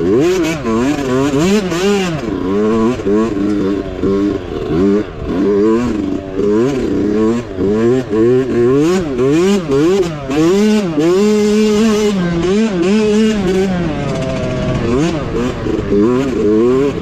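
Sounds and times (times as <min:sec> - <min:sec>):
mini bike engine revving: 0:00.0 - 0:17.0.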